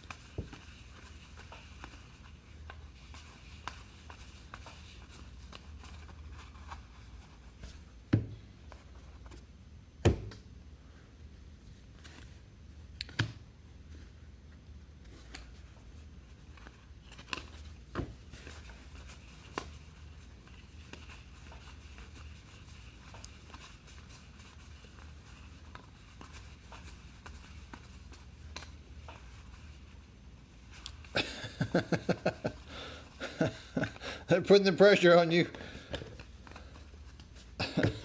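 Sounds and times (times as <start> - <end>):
trading cards being handled: 0.0 - 7.9, 15.0 - 38.0
low steady hum: 0.0 - 38.0.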